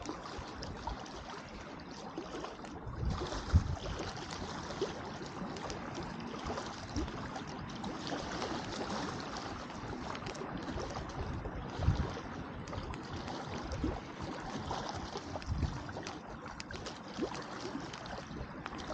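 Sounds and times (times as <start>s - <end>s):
lake water lapping: 0.0s - 18.9s.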